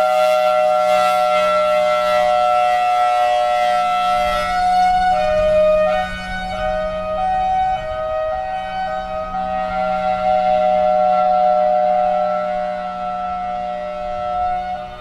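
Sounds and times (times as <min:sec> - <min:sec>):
warning siren hi-lo tone: 0:00.0 - 0:15.0.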